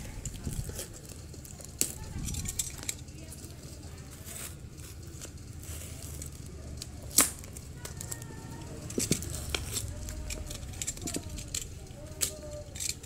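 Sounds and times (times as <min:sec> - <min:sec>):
wrapping rustling and tearing: 0:00.0 - 0:13.0.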